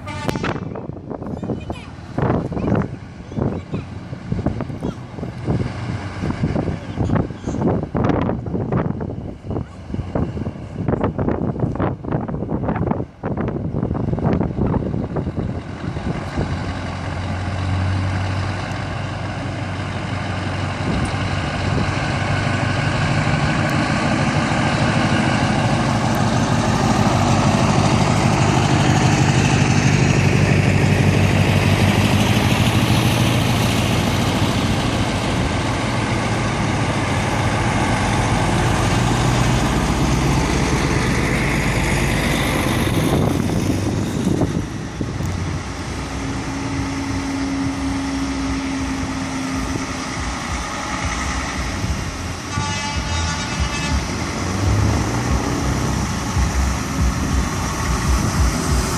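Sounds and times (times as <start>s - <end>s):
diesel truck engine running: 0.0s - 58.9s.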